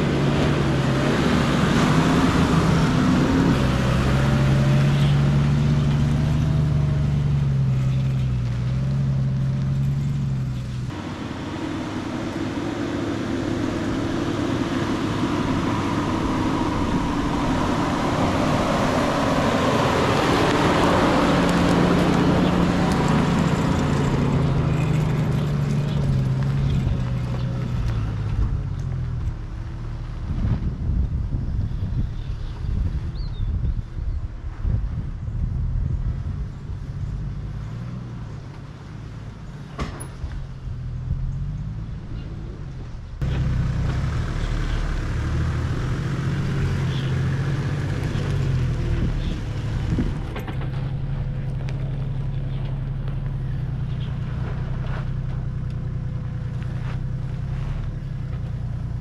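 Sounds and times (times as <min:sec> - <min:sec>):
road noise rumbling: 0:00.0 - 0:59.0
vehicle engine running: 0:00.0 - 0:59.0.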